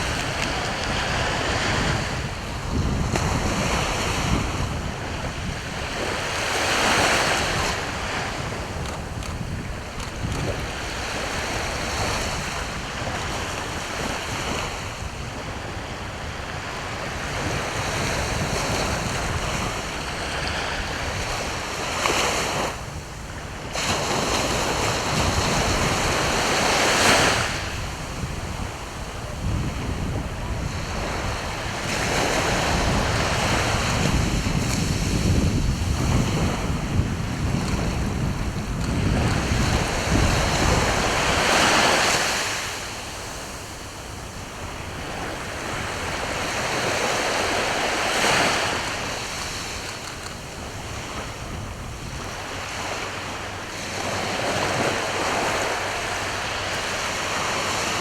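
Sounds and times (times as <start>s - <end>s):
sea waves breaking on shore: 0.0s - 58.0s
wind buffeting microphone: 0.0s - 58.0s.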